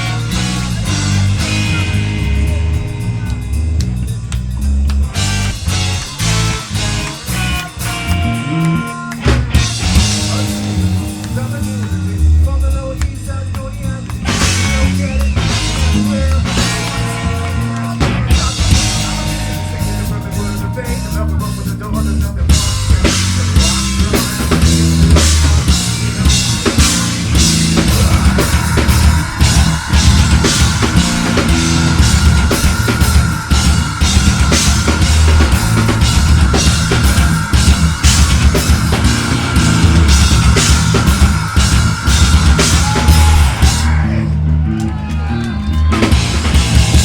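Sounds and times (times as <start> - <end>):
distorted guitar and bass: 0.0 - 47.0
drum kit pounding: 0.0 - 47.0.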